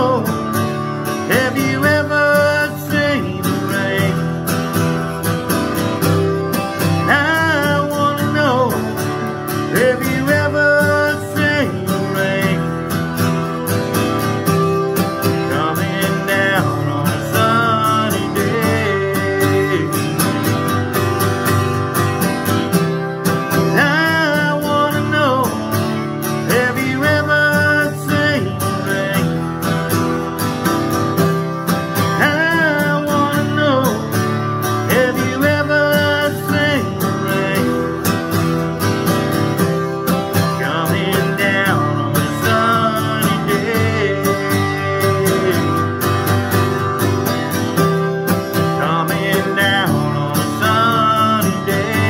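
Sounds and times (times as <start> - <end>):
man singing: 0.0 - 20.9, 22.8 - 46.9, 47.8 - 52.0
strummed acoustic guitar: 0.0 - 52.0.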